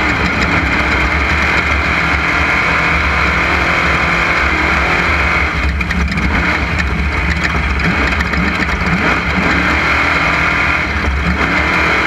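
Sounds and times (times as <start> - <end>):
knocks and rattles from rough ground: 0.0 - 11.8
race vehicle engine running hard: 0.0 - 12.0.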